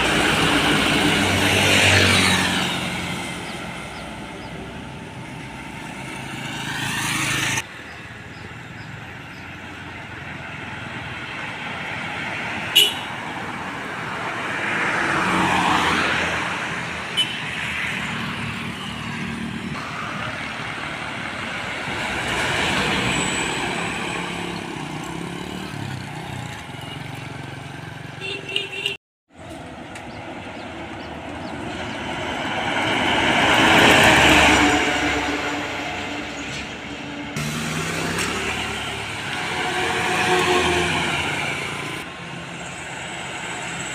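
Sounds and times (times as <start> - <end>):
heavy vehicles passing: 0.0 - 43.9.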